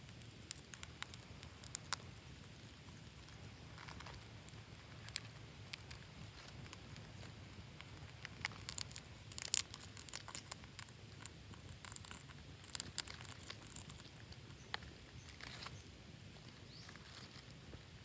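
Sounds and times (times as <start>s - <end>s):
birds scratching at bark and leaves: 0.0s - 18.0s.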